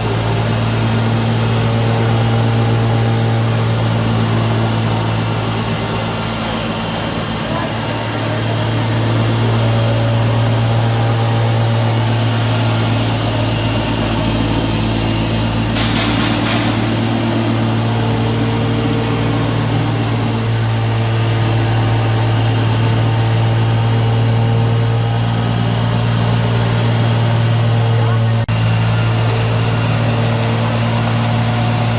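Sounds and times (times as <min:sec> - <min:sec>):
machine loud low hum: 0:00.0 - 0:31.9.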